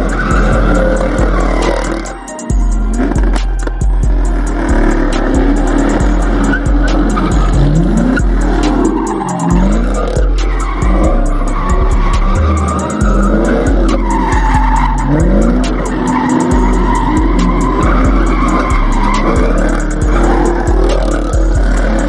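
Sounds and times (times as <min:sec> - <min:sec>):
car engine revving: 0:00.0 - 0:22.0
hip-hop music with deep bass: 0:00.0 - 0:22.0
tyres squealing: 0:00.0 - 0:22.0.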